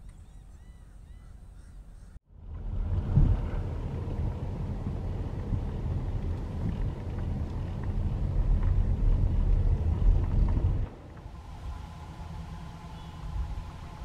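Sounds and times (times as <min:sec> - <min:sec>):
tyres and engine rumble: 0:02.3 - 0:14.0.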